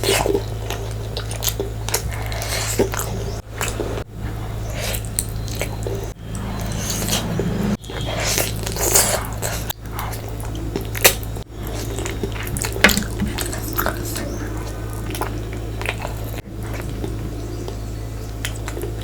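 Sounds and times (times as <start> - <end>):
steady low hum: 0.0 - 19.0
wet chewing mouth sounds: 0.0 - 19.0.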